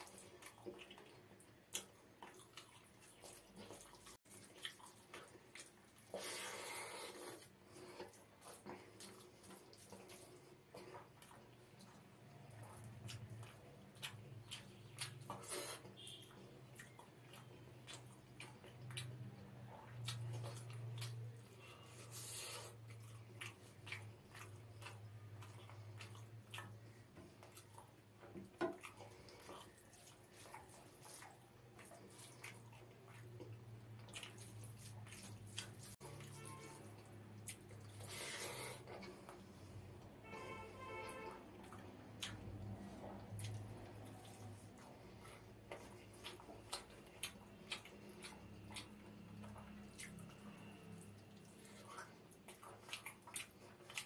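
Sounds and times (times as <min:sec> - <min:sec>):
chewing with lip smacks: 0:00.0 - 0:40.1, 0:41.0 - 0:54.0.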